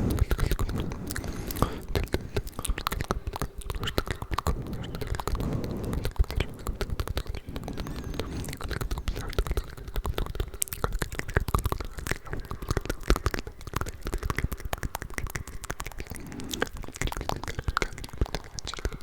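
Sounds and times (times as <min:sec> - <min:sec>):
unintelligible whispering: 0:00.0 - 0:19.0
wet mouth clicks and smacks: 0:00.1 - 0:19.0.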